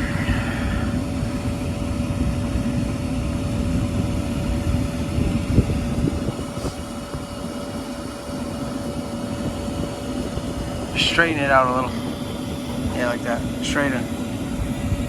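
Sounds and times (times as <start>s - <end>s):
rooftop heating unit rumbling: 0.0s - 15.0s.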